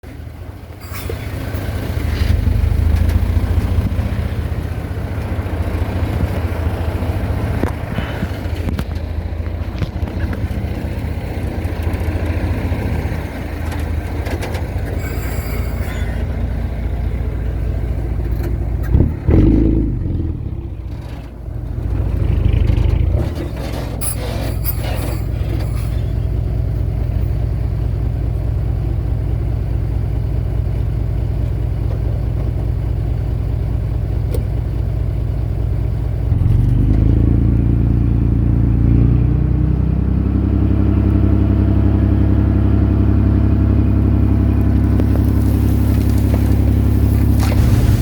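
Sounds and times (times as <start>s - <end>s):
diesel engine under load: 0.0s - 48.0s.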